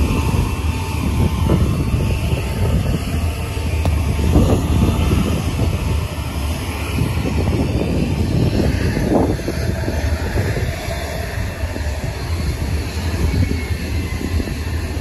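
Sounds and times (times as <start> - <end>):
jet engines at takeoff: 0.0 - 15.0.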